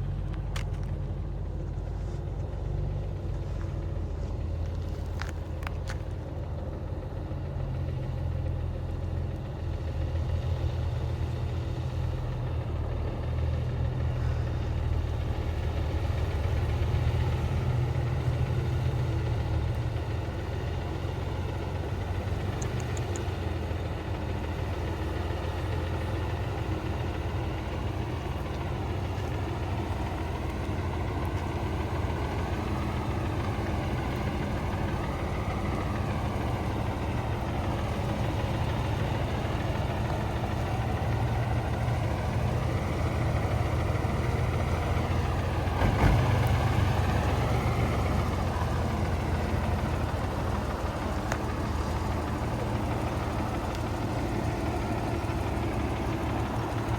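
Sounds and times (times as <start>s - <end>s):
truck engine idling: 0.0s - 56.9s.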